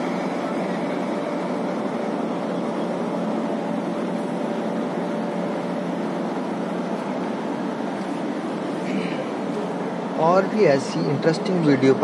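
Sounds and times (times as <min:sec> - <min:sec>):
faint steady whine: 0:00.0 - 0:12.0
locomotive machine hum: 0:00.0 - 0:12.0.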